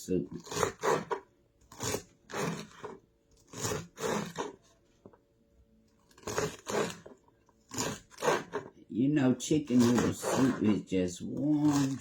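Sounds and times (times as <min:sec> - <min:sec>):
knife crunching through celery: 0:00.2 - 0:04.7, 0:06.0 - 0:12.0.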